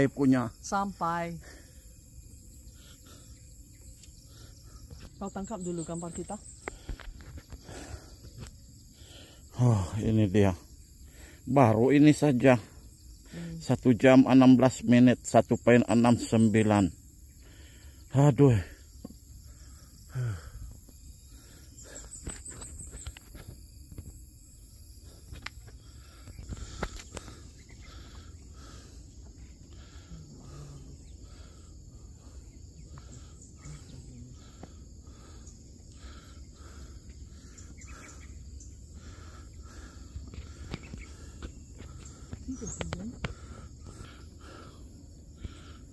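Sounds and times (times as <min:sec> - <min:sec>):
insects buzzing: 0:00.0 - 0:45.9.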